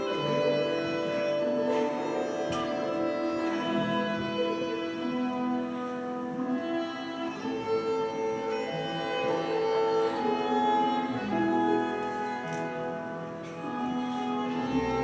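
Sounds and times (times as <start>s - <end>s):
sustained string-like music: 0.0s - 15.0s.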